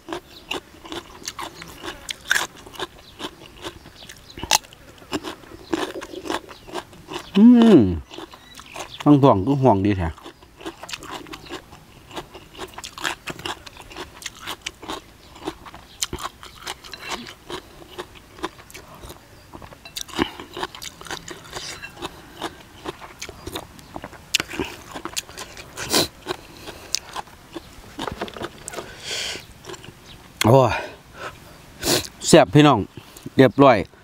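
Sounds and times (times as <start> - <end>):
man chewing crunchy food: 0.0 - 9.2, 9.9 - 30.1.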